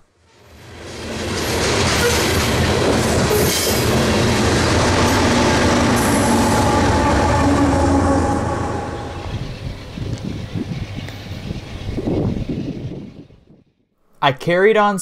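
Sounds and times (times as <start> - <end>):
diesel locomotive engine running: 0.4 - 13.6.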